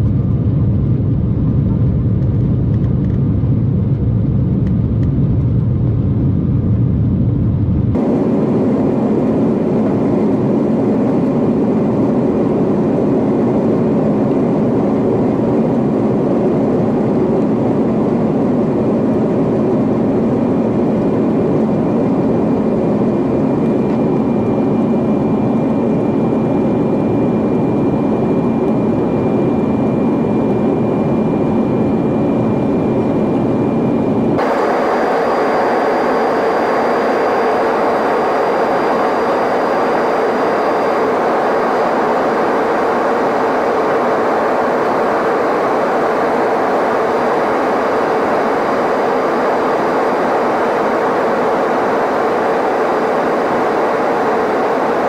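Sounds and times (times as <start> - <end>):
jet cabin engine and airflow noise: 0.0 - 55.0
thin steady whine: 8.0 - 55.0.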